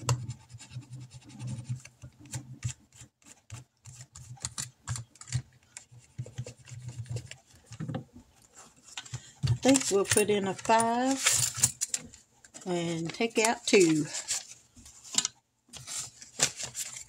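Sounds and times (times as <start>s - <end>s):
paper money and envelopes rustling: 1.1s - 17.0s.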